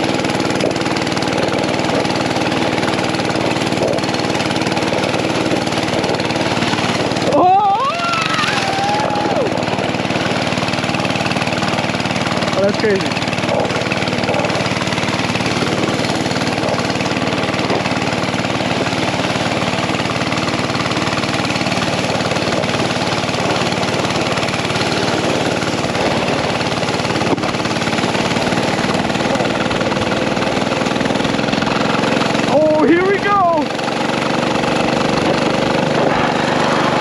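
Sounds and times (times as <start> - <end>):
mini bike engine running: 0.0 - 37.0.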